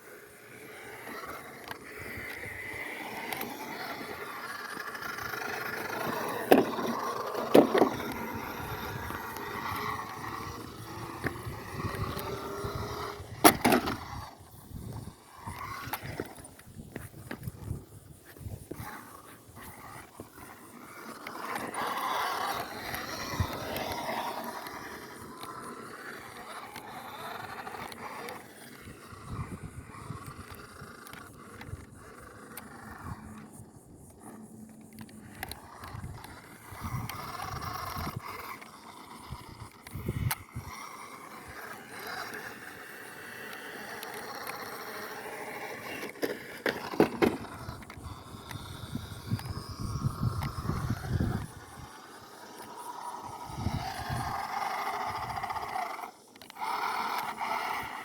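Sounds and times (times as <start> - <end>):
small electric motor whining: 0.0 - 58.0
toy car scraping and knocking: 0.0 - 58.0.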